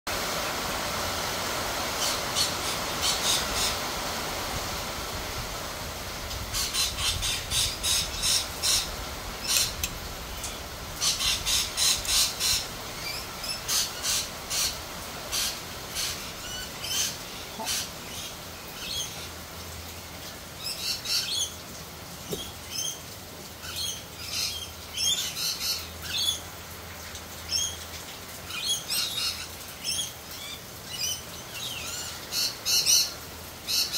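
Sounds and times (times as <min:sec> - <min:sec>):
steady rain: 0:00.1 - 0:33.9
birds calling: 0:01.8 - 0:04.4, 0:06.4 - 0:19.5, 0:20.2 - 0:33.9.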